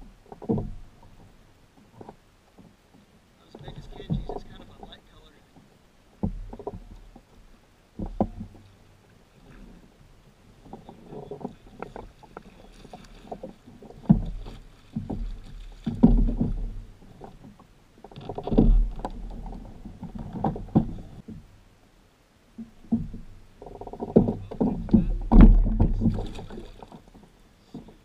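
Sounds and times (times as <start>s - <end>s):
water splashing: 0.0s - 21.5s, 22.6s - 28.0s.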